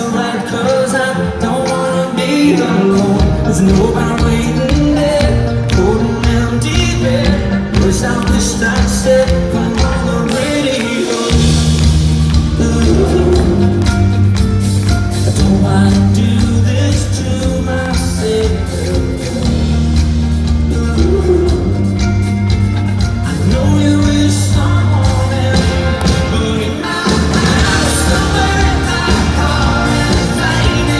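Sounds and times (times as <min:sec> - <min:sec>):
bass guitar: 0:00.0 - 0:30.9
drums: 0:00.0 - 0:30.9
electric guitar: 0:00.0 - 0:30.9
person singing: 0:00.0 - 0:30.9.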